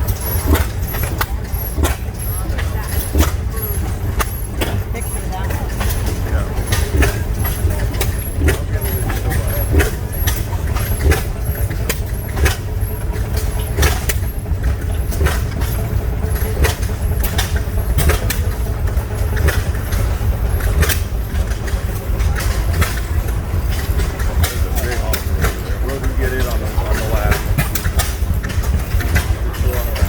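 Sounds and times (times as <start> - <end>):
gas engines rumbling: 0.0 - 30.0
sharp exhaust pops: 0.0 - 30.0.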